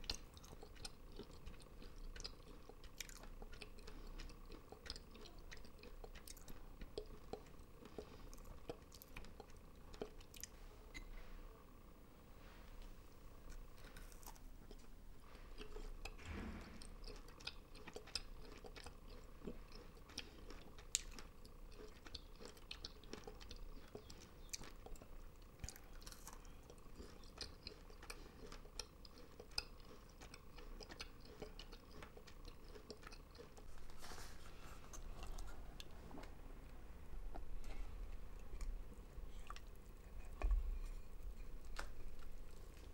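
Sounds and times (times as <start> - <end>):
person chewing crunchy food: 0.0 - 11.1, 12.8 - 42.9.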